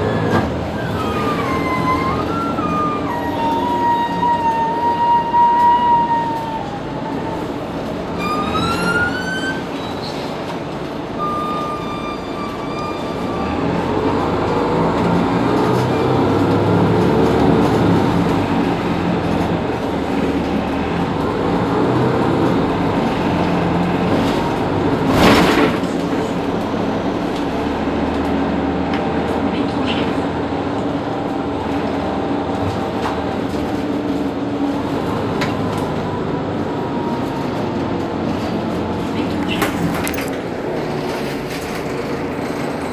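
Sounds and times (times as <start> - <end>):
bus engine idling: 0.0 - 42.9.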